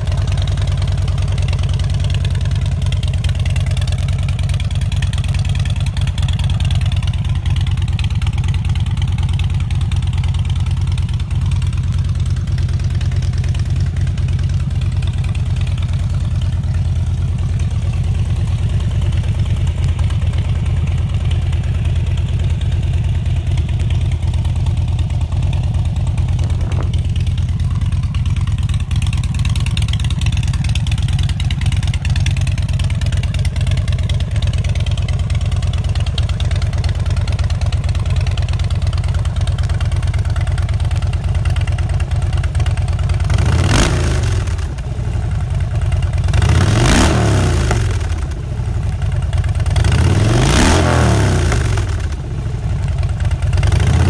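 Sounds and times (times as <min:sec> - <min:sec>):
motorcycle engine idling: 0:00.0 - 0:54.0
motorcycle engine revving: 0:00.0 - 0:54.0.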